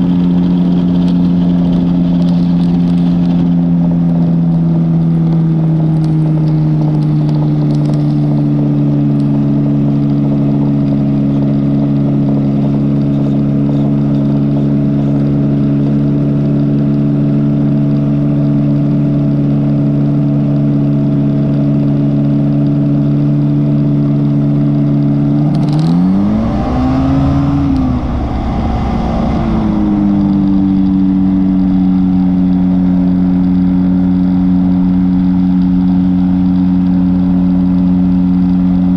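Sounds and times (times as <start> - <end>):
ultralight engine running: 0.0 - 38.9.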